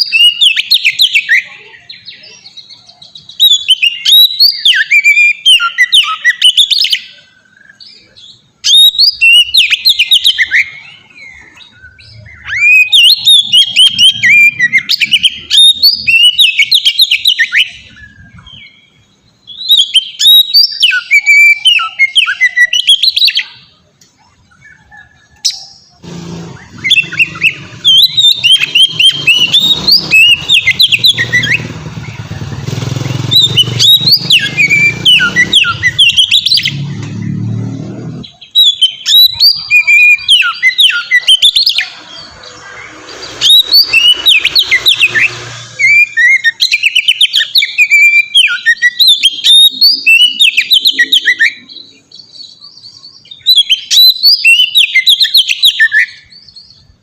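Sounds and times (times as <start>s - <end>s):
bird singing whistles and trills: 0.0s - 37.5s, 38.1s - 57.0s.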